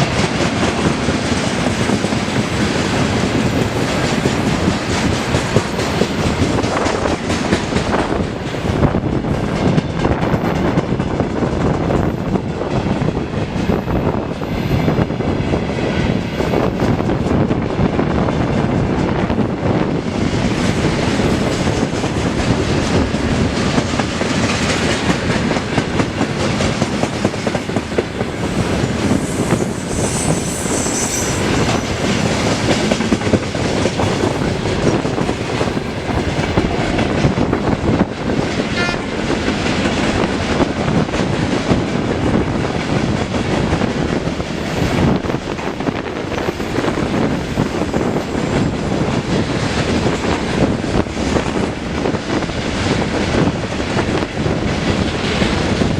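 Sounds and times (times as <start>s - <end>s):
train wheels clattering over rails: 0.0s - 55.9s.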